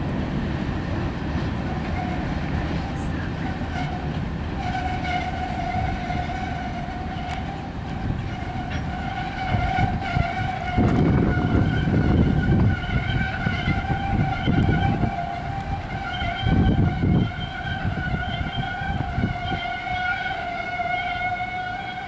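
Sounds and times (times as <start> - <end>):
train cars rumbling: 0.0 - 22.0
high metallic squeal: 1.8 - 22.0.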